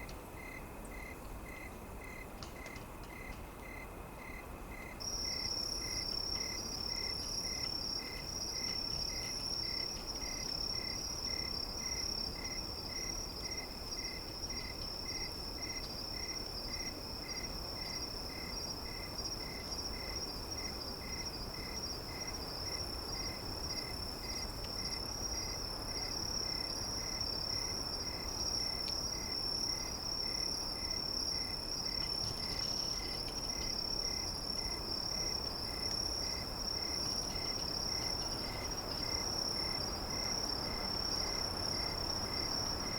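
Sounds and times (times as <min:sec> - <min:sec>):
insects trilling: 0:00.0 - 0:42.9
pulsing insect chirp: 0:03.2 - 0:42.9.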